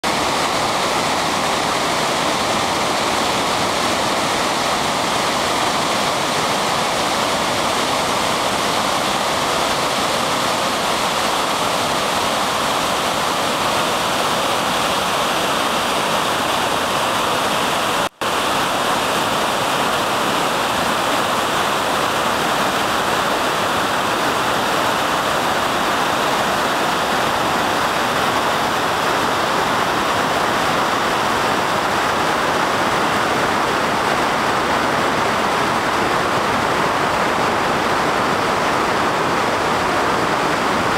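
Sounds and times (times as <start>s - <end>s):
water rushing over rapids: 0.0s - 40.9s.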